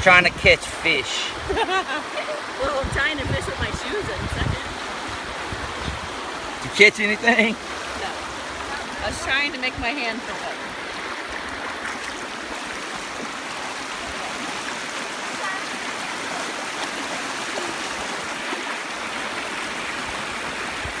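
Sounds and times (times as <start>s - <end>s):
river flowing over rocks: 0.8s - 21.0s.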